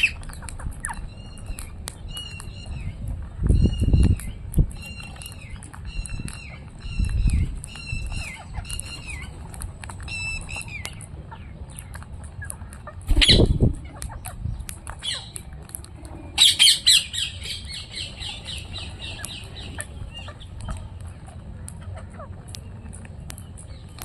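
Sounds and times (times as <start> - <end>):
parrots squawking and chattering: 0.0 - 24.0.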